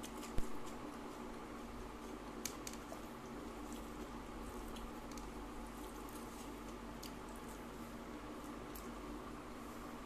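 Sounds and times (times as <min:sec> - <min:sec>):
fingers squishing wet food: 0:00.0 - 0:09.2.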